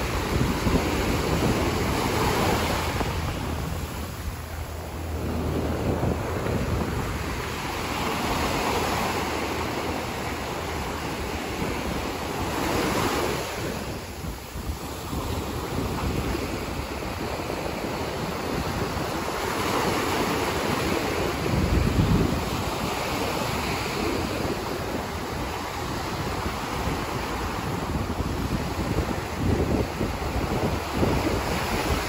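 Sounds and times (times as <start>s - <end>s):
ocean waves breaking on beach: 0.0s - 32.0s
wind rumble on microphone: 0.0s - 32.0s.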